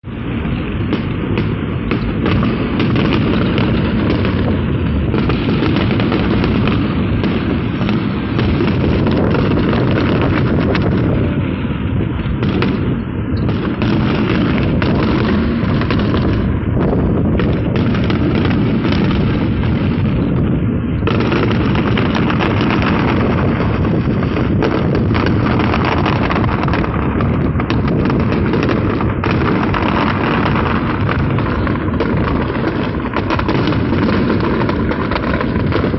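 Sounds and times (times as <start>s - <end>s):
fireworks explosions and crackling: 0.0s - 35.9s.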